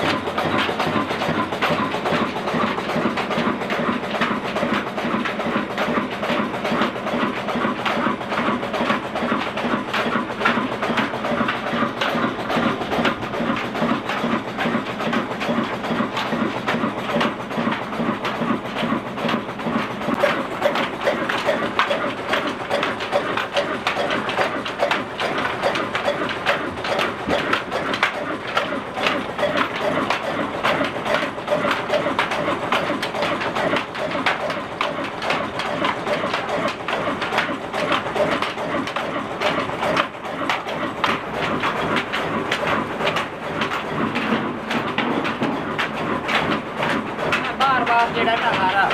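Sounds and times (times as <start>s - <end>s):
diesel engine mechanical clatter: 0.0s - 48.9s.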